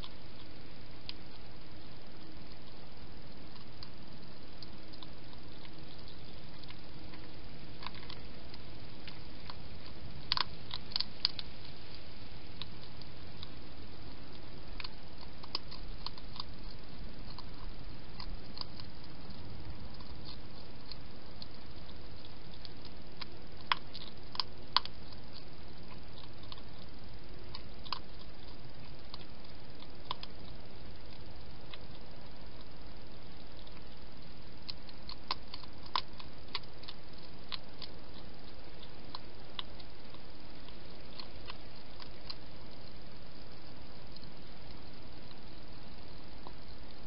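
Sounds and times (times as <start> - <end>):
hedgehog chewing crunches: 0.0 - 47.0
steady hiss: 0.0 - 47.0.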